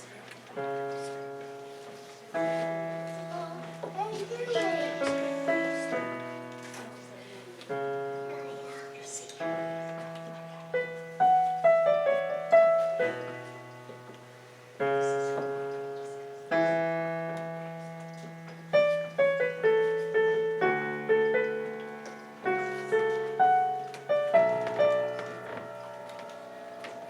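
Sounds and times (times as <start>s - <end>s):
solo piano piece: 0.0s - 27.0s.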